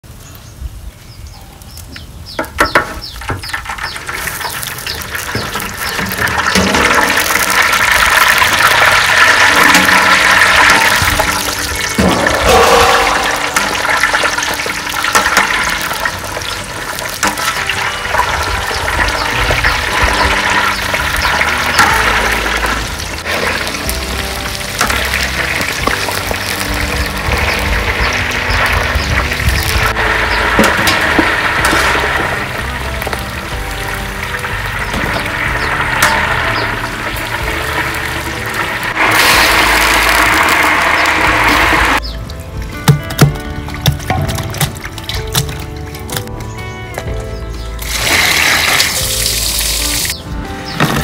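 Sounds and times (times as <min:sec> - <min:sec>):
deep-frying sizzle: 0:01.6 - 0:51.0.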